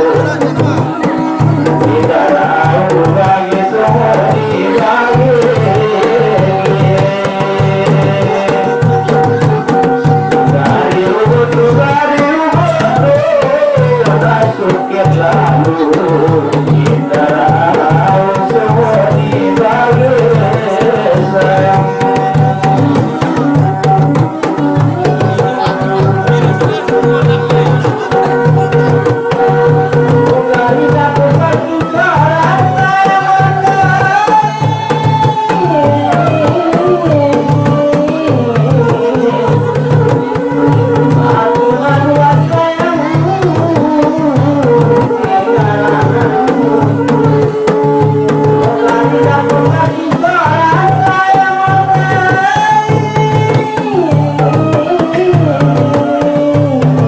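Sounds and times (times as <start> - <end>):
hand drum beat: 0.0 - 57.0.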